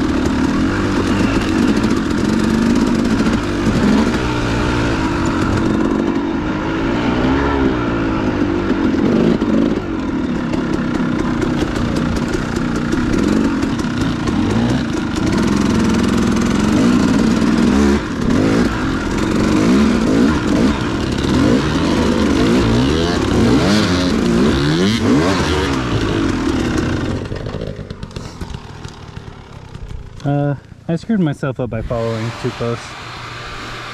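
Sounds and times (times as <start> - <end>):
dirt bike engine revving: 0.0 - 30.5, 31.2 - 33.9.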